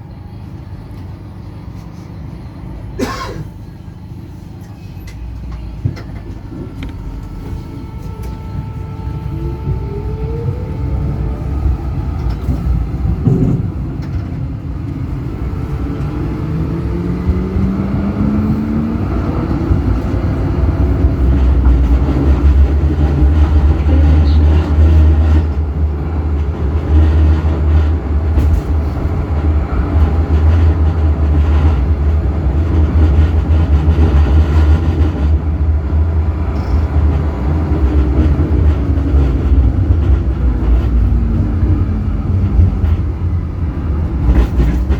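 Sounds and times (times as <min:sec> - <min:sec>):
tram motor whine: 0:00.0 - 0:44.9
wheels rumbling on track: 0:00.0 - 0:44.9.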